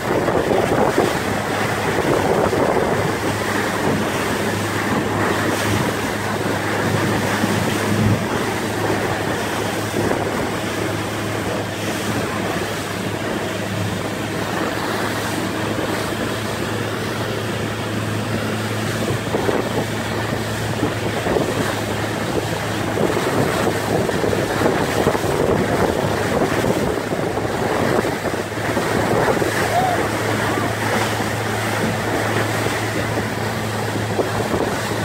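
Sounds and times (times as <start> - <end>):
outboard engine running: 0.0 - 35.0
rushing wake and spray: 0.0 - 35.0
wind on microphone: 0.0 - 35.0.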